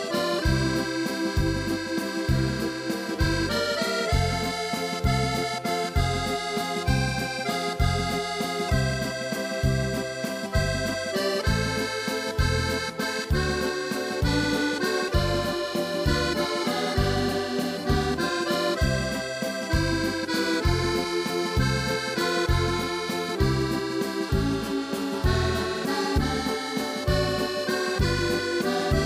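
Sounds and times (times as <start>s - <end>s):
waltz on electronic keyboard: 0.0s - 29.0s.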